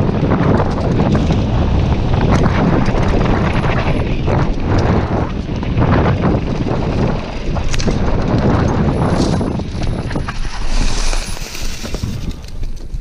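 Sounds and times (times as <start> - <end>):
bike clicks and rattles: 0.0 - 13.0
tyre rumble: 0.0 - 13.0
wind buffeting microphone: 0.0 - 13.0.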